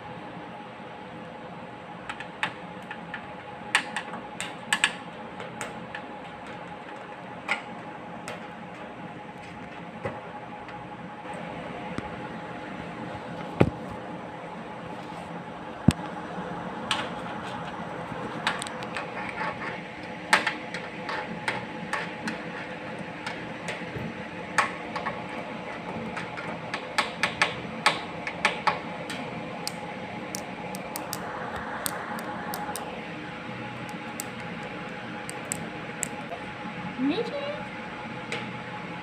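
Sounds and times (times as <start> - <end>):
faint hum: 0.0 - 39.0.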